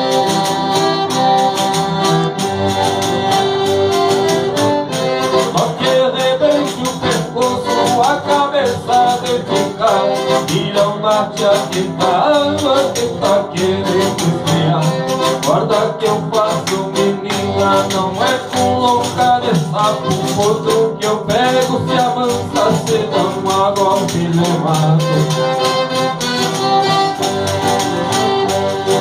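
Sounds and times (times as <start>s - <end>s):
button accordion melody: 0.0s - 29.0s
strummed acoustic guitar: 0.0s - 29.0s.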